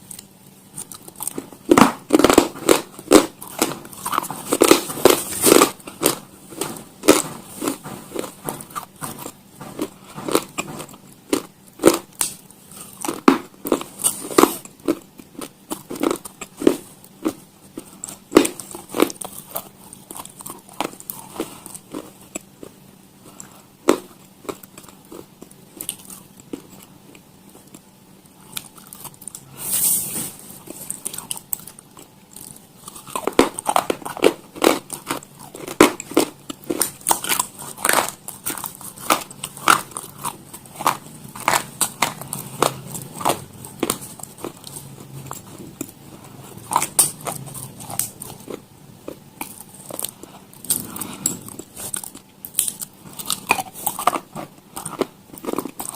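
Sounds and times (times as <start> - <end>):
crunchy food being chewed: 0.0 - 55.9.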